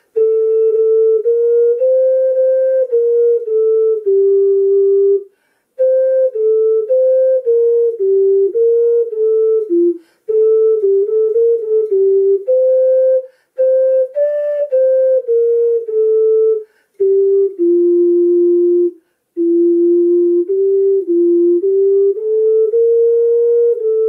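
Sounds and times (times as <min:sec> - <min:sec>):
ocarina melody: 0:00.0 - 0:24.0.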